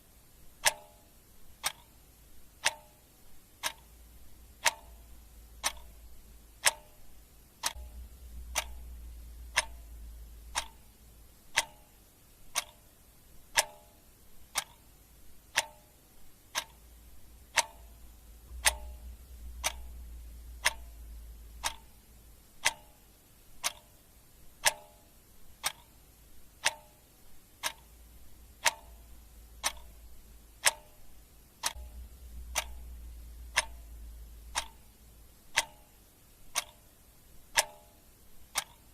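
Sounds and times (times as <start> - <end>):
faint low hum: 0.0 - 38.9
clock ticking: 0.4 - 38.9.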